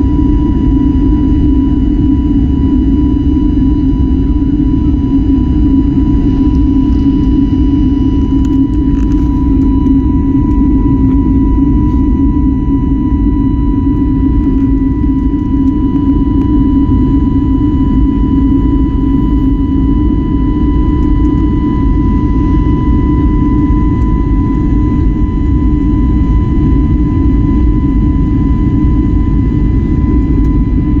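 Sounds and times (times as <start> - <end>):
high jet engine whine: 0.0 - 31.0
jet engines rumbling: 0.0 - 31.0.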